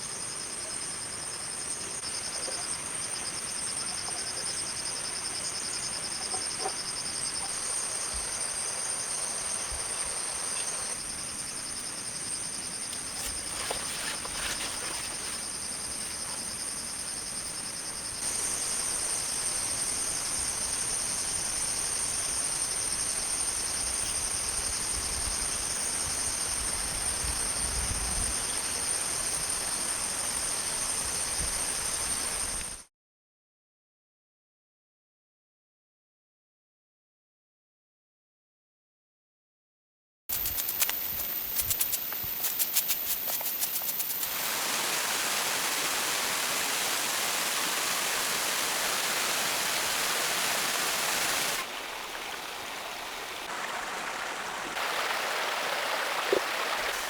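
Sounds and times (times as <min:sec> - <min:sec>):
crickets and insects trilling: 0:00.0 - 0:32.8, 0:40.3 - 0:57.0.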